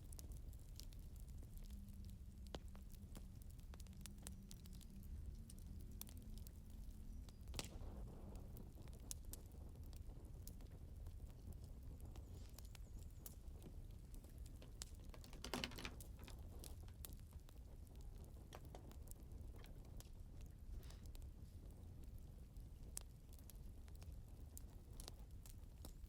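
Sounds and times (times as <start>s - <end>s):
fire crackling and popping: 0.0s - 26.0s
low fire rumble: 0.0s - 26.0s.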